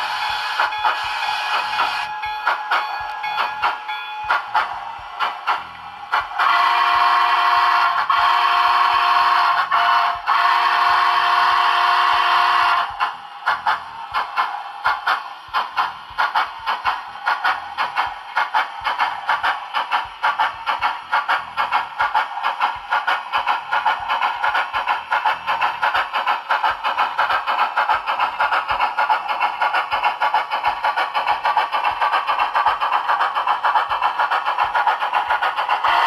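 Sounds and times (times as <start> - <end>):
model train exhaust chuff: 0.0 - 36.0.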